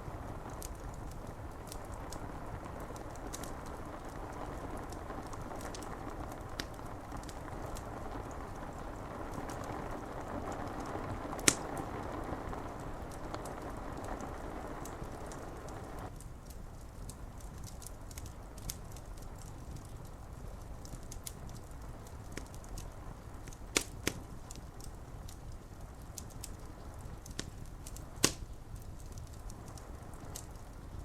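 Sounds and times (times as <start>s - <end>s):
fire crackling and popping: 0.0s - 31.0s
rain on window glass: 0.0s - 31.0s.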